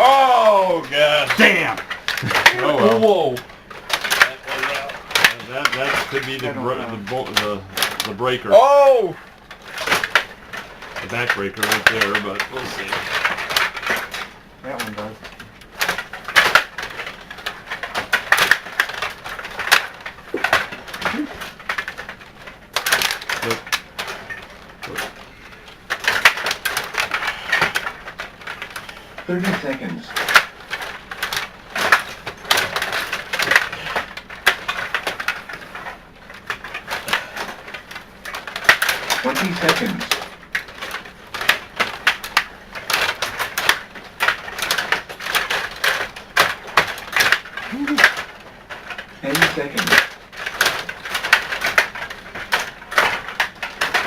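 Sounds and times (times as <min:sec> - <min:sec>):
table hockey rods and puck clacking: 0:00.0 - 0:54.0.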